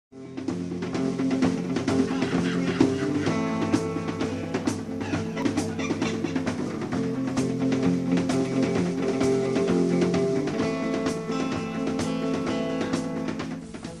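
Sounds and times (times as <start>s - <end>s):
guitar: 0.1s - 14.0s
drum kit beat: 0.2s - 14.0s.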